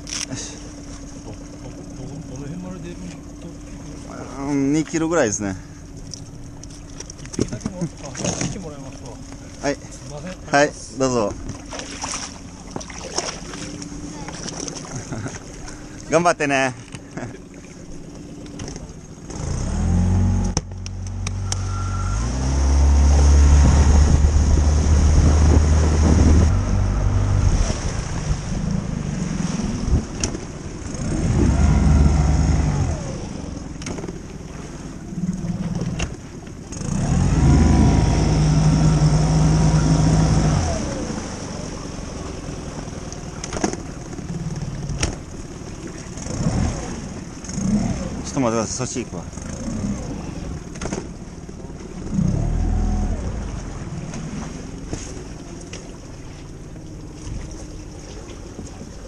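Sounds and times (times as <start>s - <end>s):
outboard motor revving and idling: 0.0s - 59.0s.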